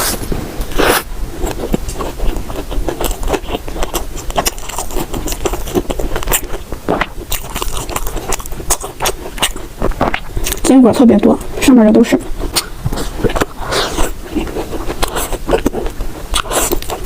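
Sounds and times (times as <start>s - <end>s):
chewing crunchy bread: 0.0s - 17.0s.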